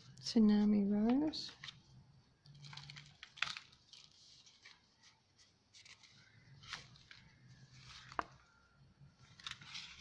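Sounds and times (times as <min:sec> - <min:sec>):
paper pages rustling: 0:00.6 - 0:08.6, 0:09.2 - 0:10.0.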